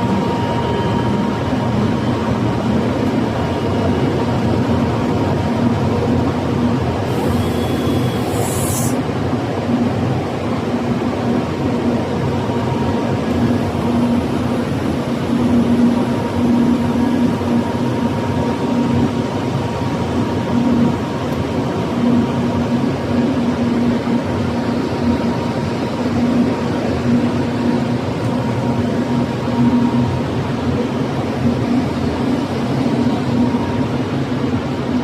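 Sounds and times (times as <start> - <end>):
machinery running hum: 0.0 - 35.0
thin steady whine: 0.0 - 35.0.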